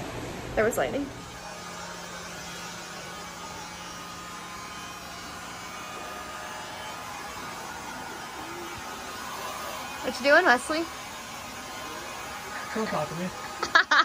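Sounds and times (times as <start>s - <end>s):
machine hum: 0.0s - 14.0s
even hiss: 0.6s - 14.0s.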